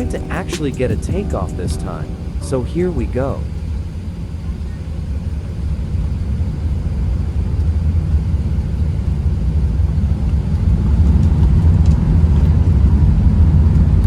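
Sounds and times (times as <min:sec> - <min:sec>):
jet engine and runway rumble: 0:00.0 - 0:14.0.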